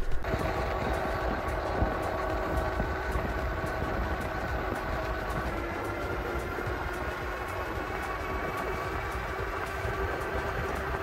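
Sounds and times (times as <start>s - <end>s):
electric bike motor whine: 0.2s - 11.0s
wind rumble on microphone: 0.2s - 11.0s.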